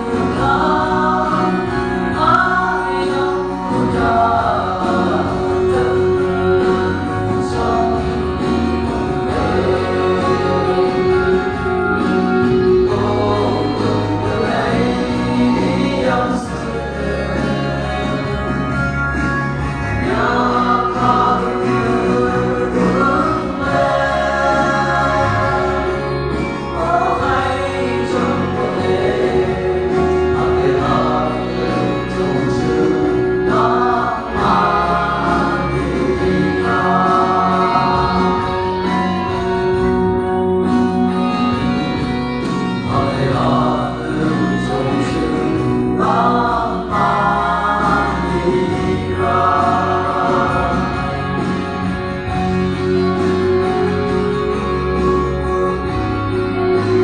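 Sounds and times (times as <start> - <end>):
men singing gospel into microphones: 0.0 - 39.9, 40.6 - 57.0
low backing music: 0.0 - 57.0.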